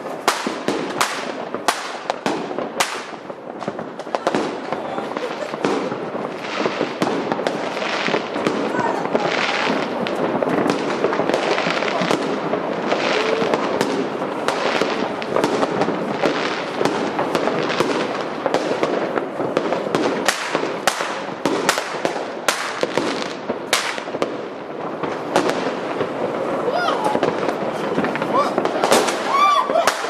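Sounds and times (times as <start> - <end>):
fireworks bangs and crackling: 0.0 - 30.0
sharp firework bangs: 0.0 - 30.0.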